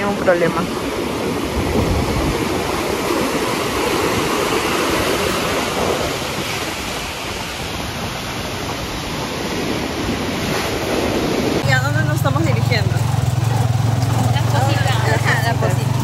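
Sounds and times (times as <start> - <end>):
ocean surf breaking on shore: 0.0 - 16.0.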